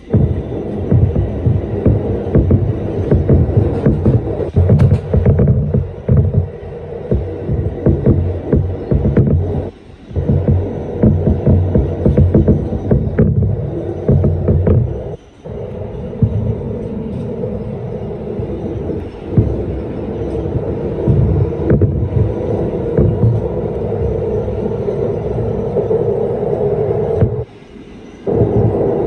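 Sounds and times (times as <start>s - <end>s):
droning hum: 0.0s - 29.0s
subway wheels rumbling on rails: 0.0s - 29.0s.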